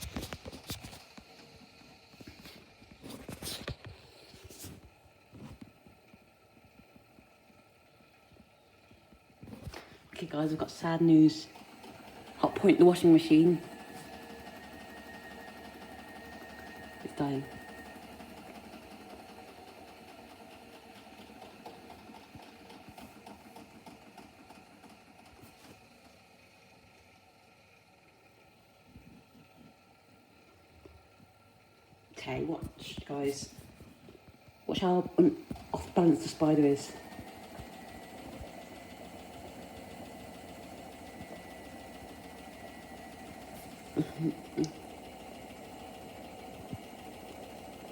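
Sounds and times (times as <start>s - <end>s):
washing machine running: 0.0s - 47.9s.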